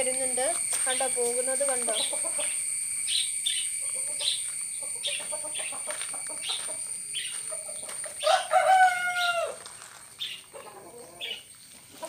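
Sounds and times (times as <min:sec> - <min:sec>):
fowl clucking and cheeping: 0:00.7 - 0:12.0.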